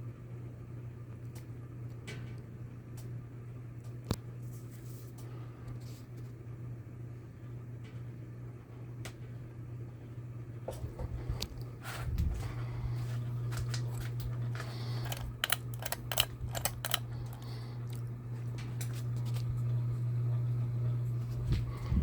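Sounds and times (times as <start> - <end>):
ceiling fan humming: 0.0 - 22.0.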